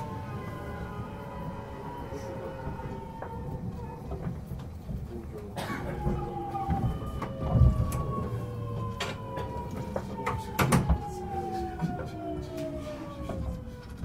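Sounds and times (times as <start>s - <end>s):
electric train inverter whining: 0.0s - 14.0s
train running rumble: 0.0s - 14.0s.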